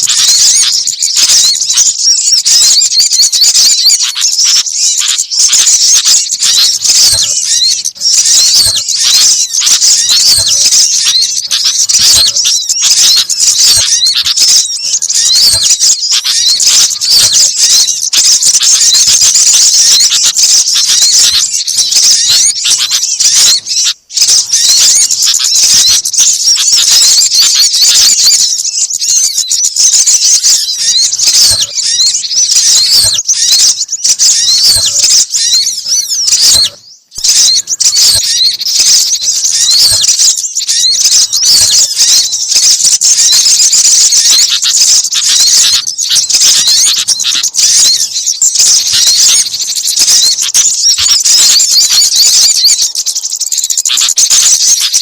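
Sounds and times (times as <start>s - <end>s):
small birds chirping and twittering: 0.0s - 55.0s.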